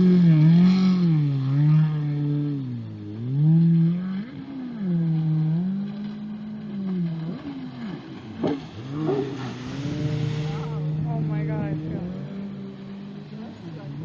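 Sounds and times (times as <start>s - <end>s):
jet ski engine revving: 0.0s - 14.0s.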